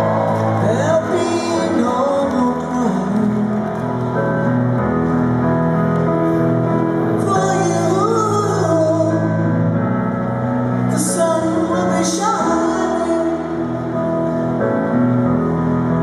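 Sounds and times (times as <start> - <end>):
grand piano chords: 0.0 - 16.0.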